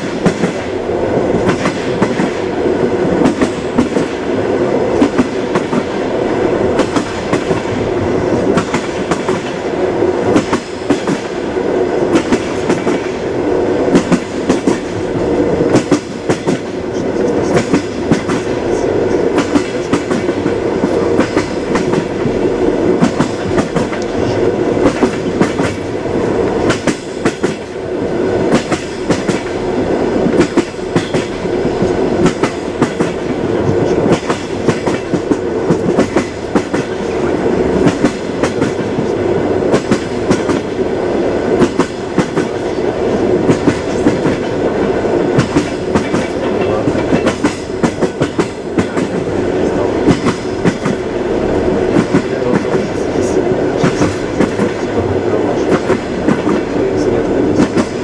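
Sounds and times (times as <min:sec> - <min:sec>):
train rumble: 0:00.0 - 0:58.0
train wheels clacking on rails: 0:00.0 - 0:58.0.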